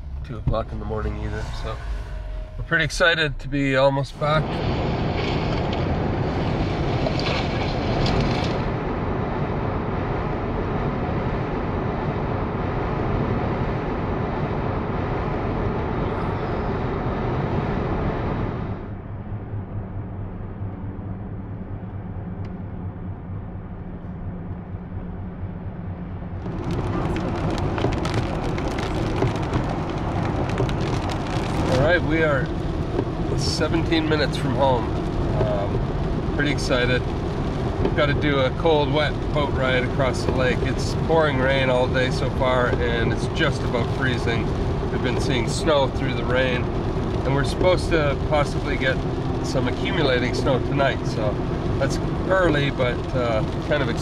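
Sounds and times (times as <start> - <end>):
tyres on wet road: 0.0 - 18.8, 26.3 - 54.0
road and engine noise in car: 0.0 - 54.0.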